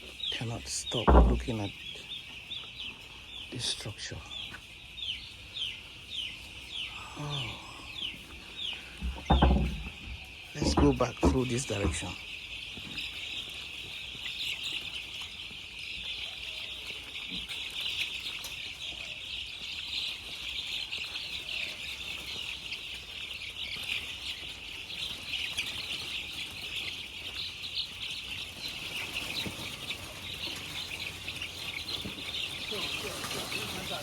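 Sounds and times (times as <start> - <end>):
chickens chirping: 0.0 - 34.0.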